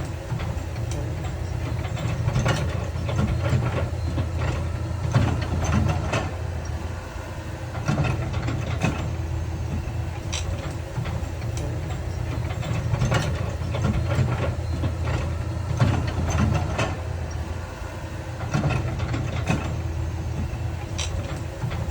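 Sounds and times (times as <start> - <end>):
diesel earthmoving machinery running: 0.0 - 21.9.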